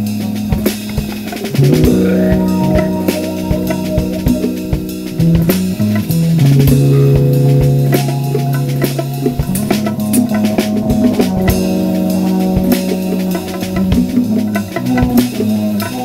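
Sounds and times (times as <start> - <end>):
drum kit beat: 0.0 - 16.0
electric bass held low notes: 0.0 - 16.0
electric guitar: 0.0 - 16.0.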